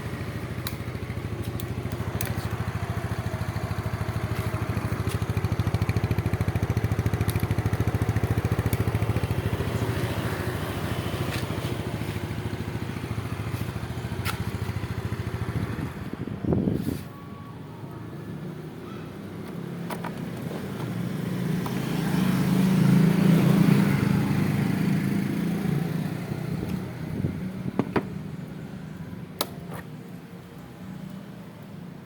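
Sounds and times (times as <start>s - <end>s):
scooter engine idling: 0.0s - 29.6s.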